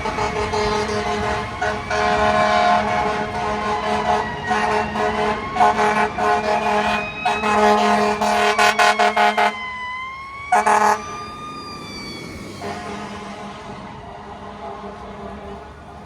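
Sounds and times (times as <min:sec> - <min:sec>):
fire truck air horn blasts: 0:00.0 - 0:09.7, 0:10.5 - 0:11.2, 0:12.6 - 0:15.8
siren wailing: 0:00.0 - 0:15.0.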